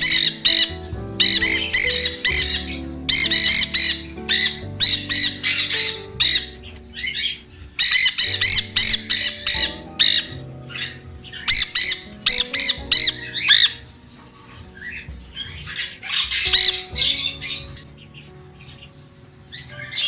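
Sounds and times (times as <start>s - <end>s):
parrots screeching: 0.0s - 13.8s, 14.8s - 17.7s.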